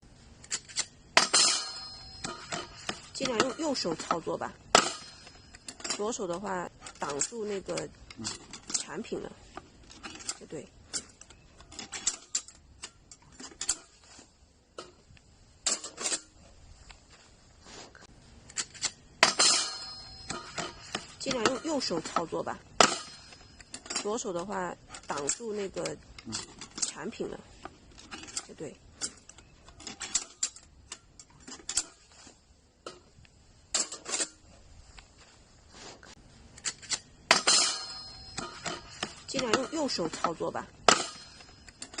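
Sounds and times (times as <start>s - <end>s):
sheet metal parts clinking: 0.4s - 15.0s, 15.6s - 16.4s, 18.5s - 33.1s, 33.7s - 34.6s, 36.6s - 42.0s.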